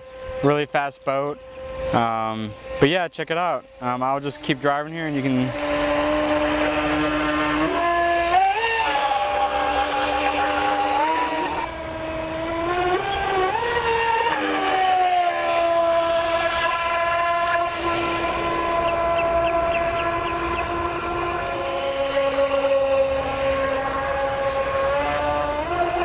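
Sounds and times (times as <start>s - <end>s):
model boat motor whining: 0.0s - 26.0s.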